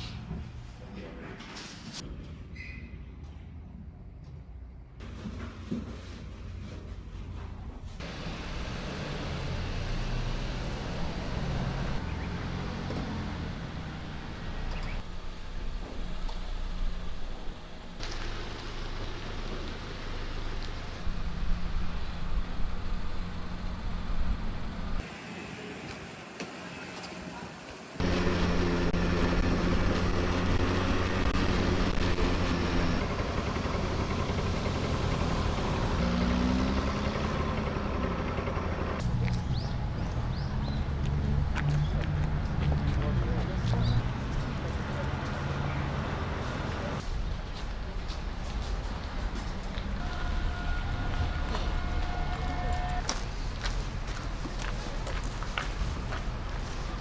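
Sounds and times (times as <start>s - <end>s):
vehicle engine hum: 7.9s - 25.1s, 28.0s - 57.0s
traffic noise: 8.0s - 57.0s.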